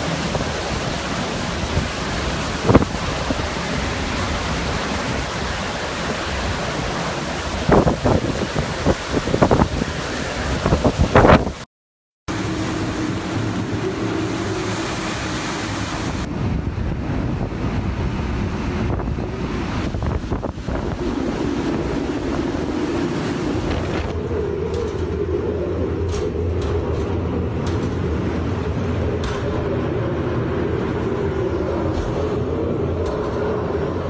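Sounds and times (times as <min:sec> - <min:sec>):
wind buffeting microphone: 0:00.0 - 0:11.7, 0:12.3 - 0:34.0.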